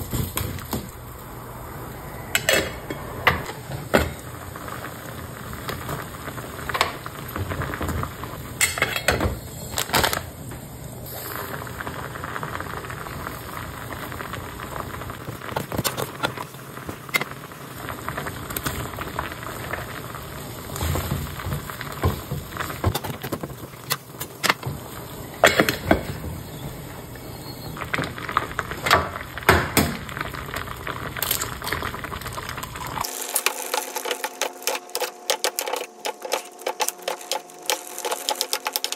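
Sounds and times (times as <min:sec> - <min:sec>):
water boiling in pot: 0:00.0 - 0:38.9.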